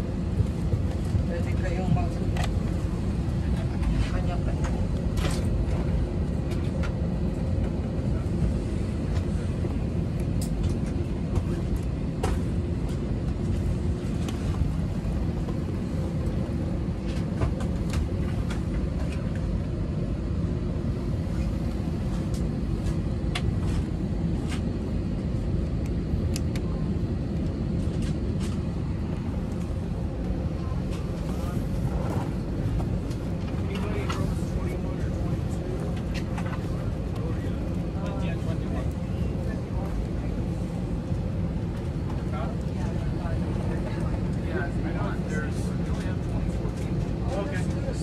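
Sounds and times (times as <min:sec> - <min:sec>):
aircraft cabin rumble: 0:00.0 - 0:48.0.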